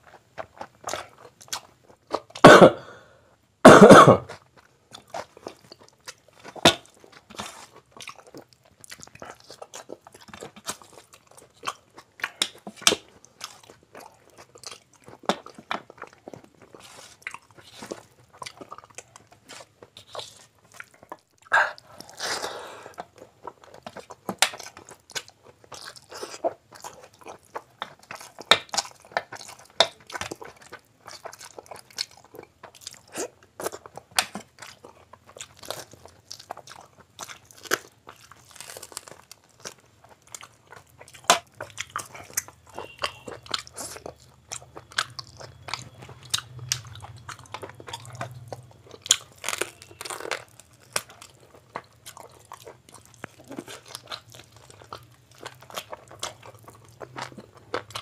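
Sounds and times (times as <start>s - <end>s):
crunching food: 0.0s - 2.5s, 4.2s - 58.0s
wet chewing: 0.0s - 2.5s, 4.2s - 58.0s.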